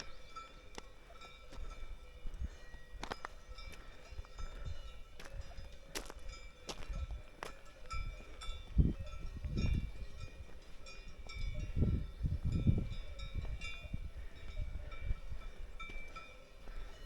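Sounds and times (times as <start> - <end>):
cowbells clanking: 0.0 - 17.0
heavy footsteps on trail: 0.0 - 17.0.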